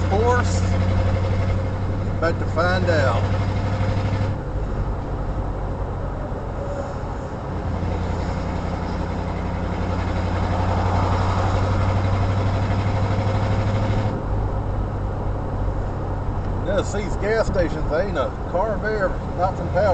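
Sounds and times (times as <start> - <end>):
car engine and road noise: 0.0 - 19.9.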